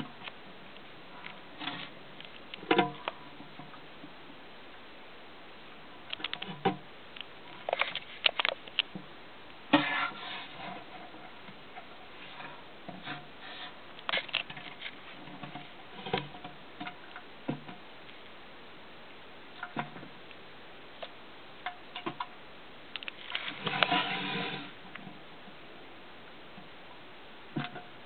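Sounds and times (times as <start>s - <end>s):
steady low hiss: 0.0s - 28.0s.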